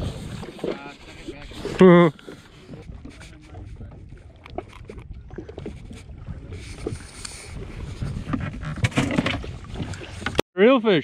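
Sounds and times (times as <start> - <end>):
small waves lapping against hull: 0.0 - 10.4.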